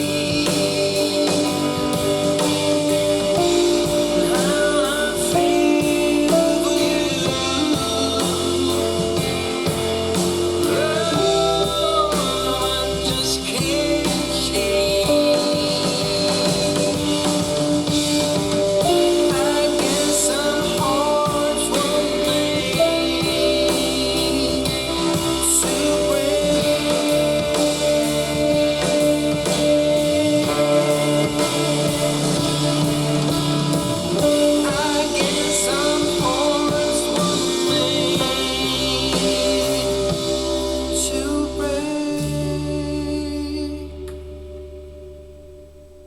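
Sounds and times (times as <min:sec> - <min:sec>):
rock song with singing: 0:00.0 - 0:44.8.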